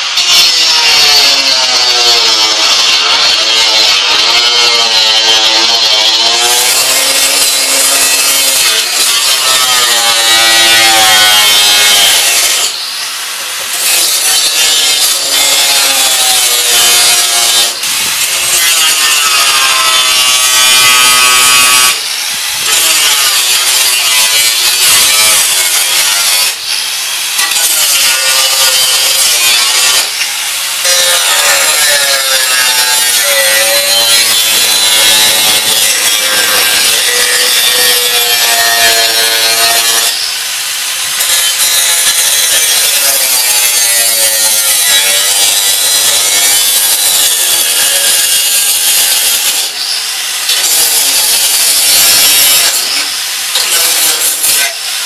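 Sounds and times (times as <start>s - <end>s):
angle grinder cutting steel: 0.0s - 55.0s.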